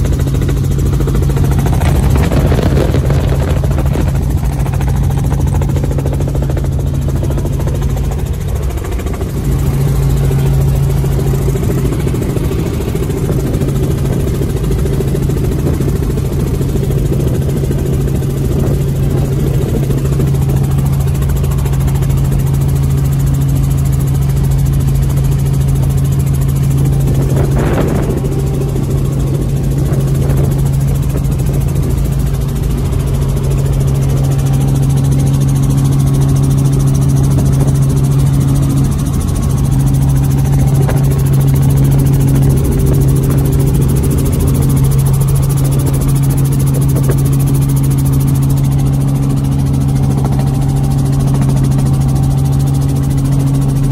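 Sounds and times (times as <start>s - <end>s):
helicopter engine and rotor hum: 0.0s - 53.9s.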